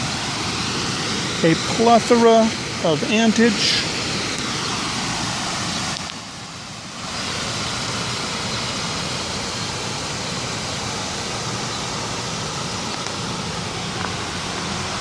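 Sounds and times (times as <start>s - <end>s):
waterfall fountain rushing: 0.0s - 15.0s.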